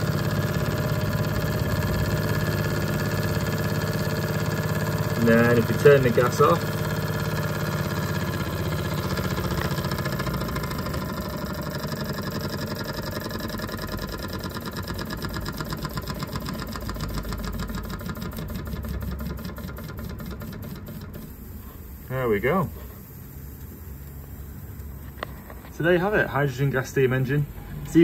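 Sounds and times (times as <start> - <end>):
steam engine exhaust puffs: 0.0 - 28.0.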